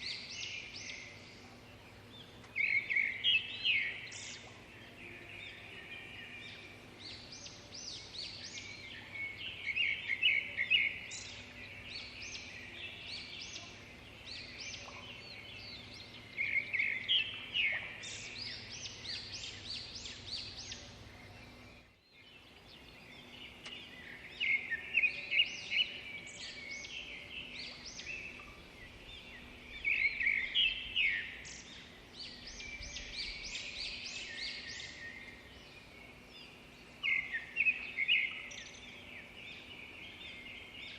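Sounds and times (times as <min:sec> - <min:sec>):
faint steady hum: 0:00.0 - 0:40.9
small birds chirping: 0:00.0 - 0:40.9.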